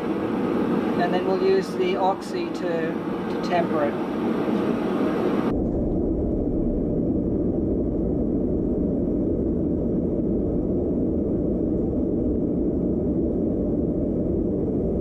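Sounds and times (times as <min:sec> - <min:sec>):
forge fire rumbling: 0:00.0 - 0:15.0.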